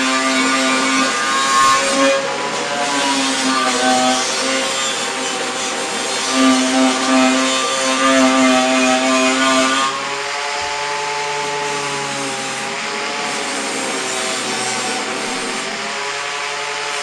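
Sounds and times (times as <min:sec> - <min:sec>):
angle grinder on metal: 0:00.0 - 0:17.0.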